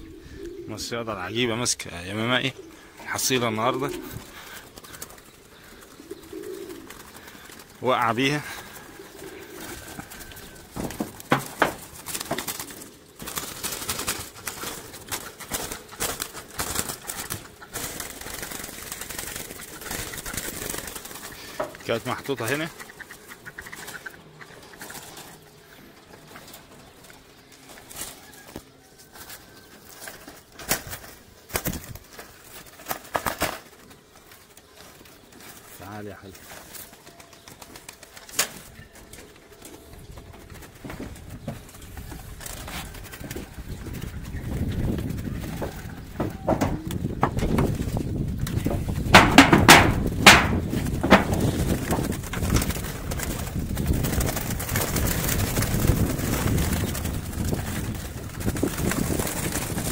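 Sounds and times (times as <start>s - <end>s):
pigeons clattering: 0.0s - 59.9s
birds flapping against wire mesh: 2.5s - 59.9s.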